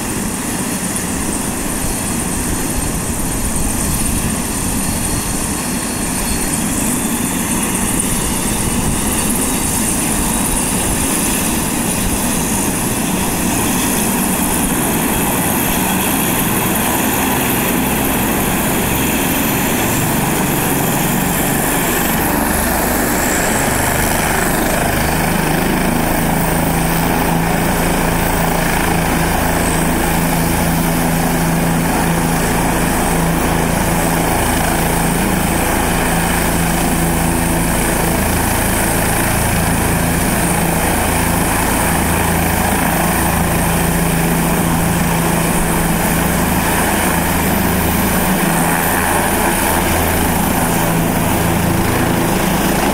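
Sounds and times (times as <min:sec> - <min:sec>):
helicopter rotor and engine: 0:00.0 - 0:52.9.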